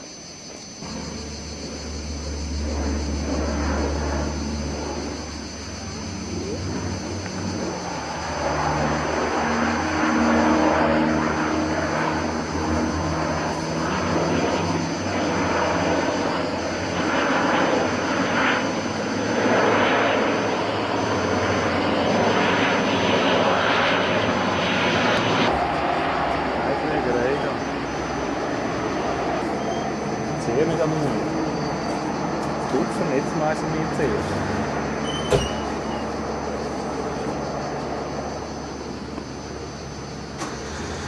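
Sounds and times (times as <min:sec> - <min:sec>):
propeller plane flying past: 0:00.0 - 0:41.0.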